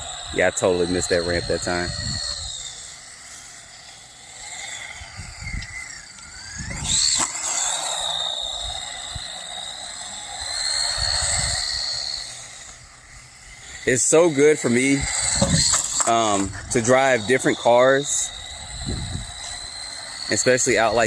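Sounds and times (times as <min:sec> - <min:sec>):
electric toy truck motor whining: 0:00.0 - 0:21.0.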